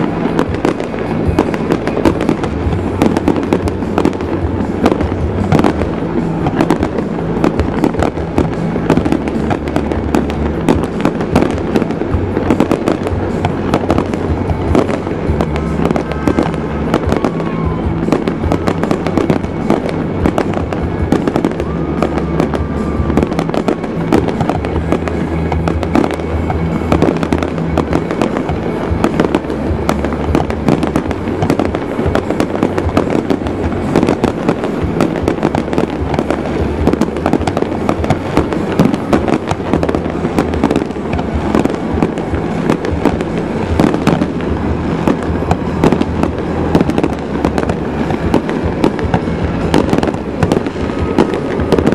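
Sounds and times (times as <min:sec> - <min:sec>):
fireworks bangs and crackling: 0:00.0 - 0:51.9
music with heavy bass: 0:00.0 - 0:51.9.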